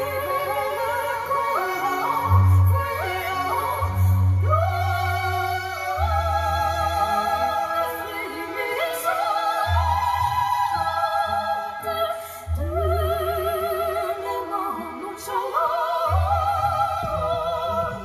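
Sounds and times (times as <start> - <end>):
operatic singing voice: 0.0 - 18.0.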